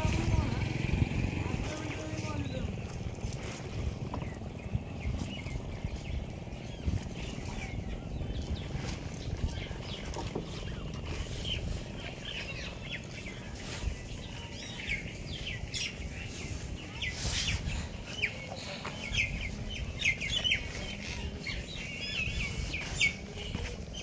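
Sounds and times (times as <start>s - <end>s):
birds chirping: 0.0s - 24.0s
low steady rumble: 0.0s - 24.0s.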